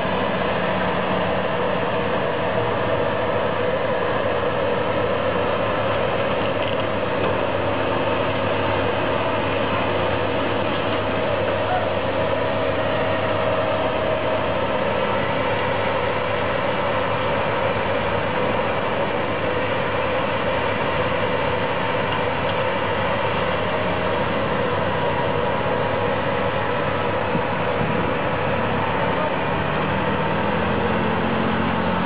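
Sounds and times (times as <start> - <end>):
machinery running steadily: 0.0 - 32.0.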